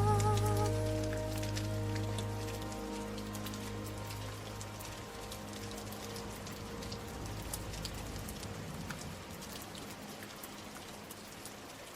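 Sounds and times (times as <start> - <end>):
music: 0.0 - 11.2
steady rain falling: 0.0 - 11.9.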